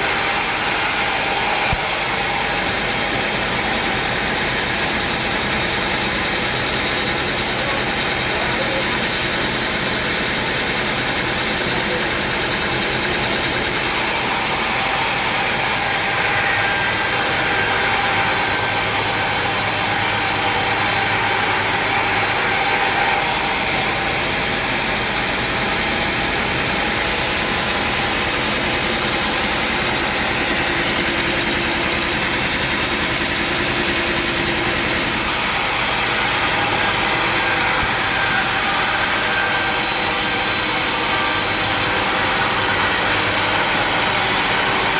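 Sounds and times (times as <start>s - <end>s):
sawmill machinery running: 0.0s - 44.9s.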